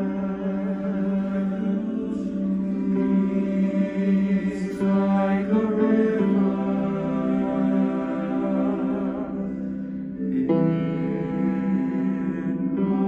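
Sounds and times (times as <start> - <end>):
two voices singing: 0.0 - 13.0.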